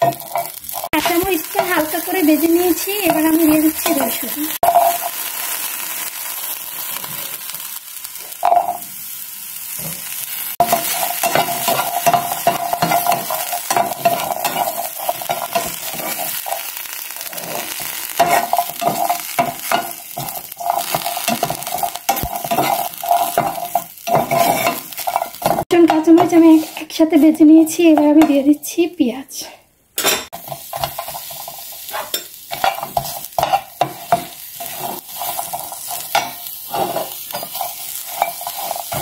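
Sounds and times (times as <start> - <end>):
spatula scraping a pan: 0.0 - 5.4, 9.7 - 28.3, 30.3 - 39.0
chillies and garlic sizzling: 0.0 - 39.0.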